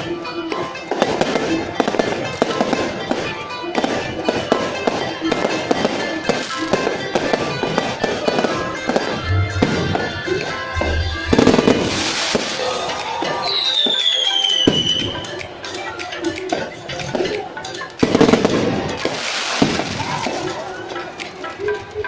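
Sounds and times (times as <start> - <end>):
fireworks banging and crackling: 0.0 - 22.0
music playing: 0.0 - 22.0.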